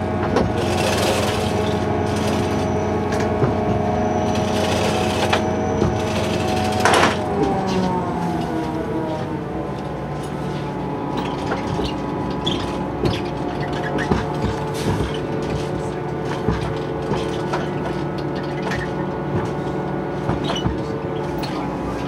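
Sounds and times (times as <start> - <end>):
railcar engine drone: 0.0 - 22.0.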